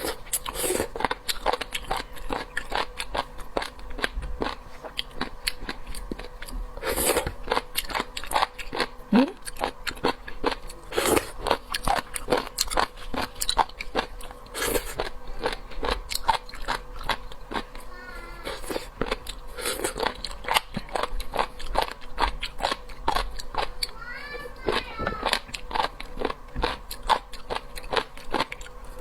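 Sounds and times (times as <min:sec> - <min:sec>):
chewing with crisp crunching: 0:00.0 - 0:29.0.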